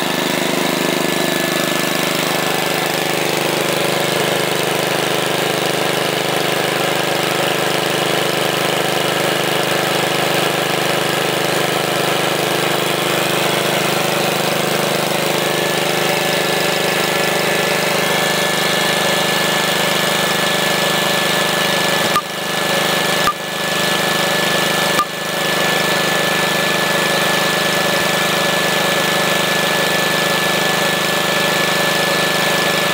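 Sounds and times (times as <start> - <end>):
single-cylinder engine running: 0.0 - 32.9.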